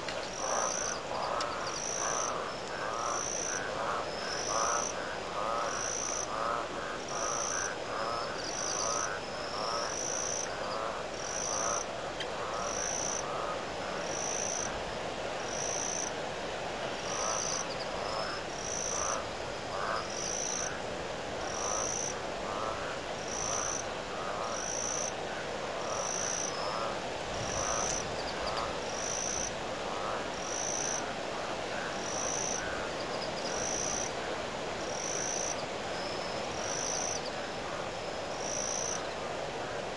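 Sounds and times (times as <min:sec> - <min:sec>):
frogs calling in rapid pulses: 0:00.0 - 0:16.2, 0:16.8 - 0:39.9.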